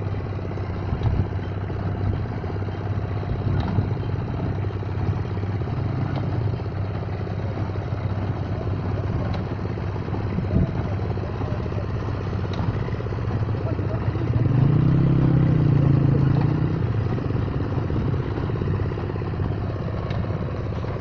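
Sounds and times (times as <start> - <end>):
engine running under load: 0.0 - 21.0.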